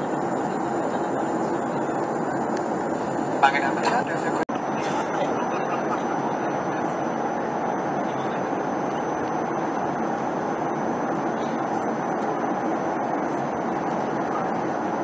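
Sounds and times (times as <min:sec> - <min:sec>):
airplane cabin roar: 0:00.0 - 0:15.0.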